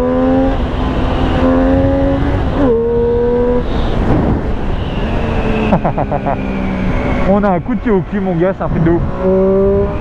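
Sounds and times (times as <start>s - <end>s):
motorcycle engine at full throttle: 0.0s - 10.0s.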